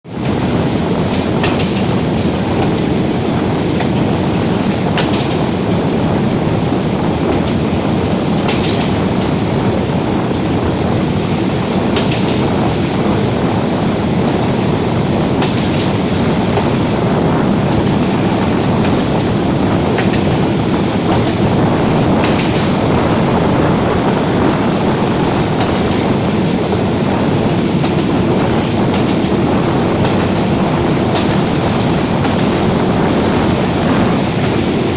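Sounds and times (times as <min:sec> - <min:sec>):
train rumbling along track: 0:00.0 - 0:34.9.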